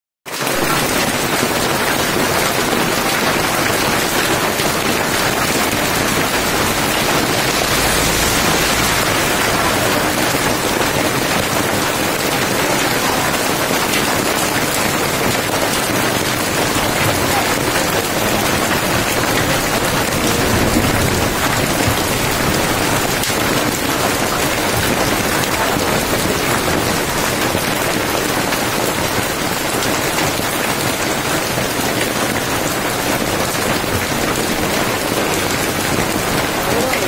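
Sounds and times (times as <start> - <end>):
hail and heavy rain on road: 0.3 - 37.0.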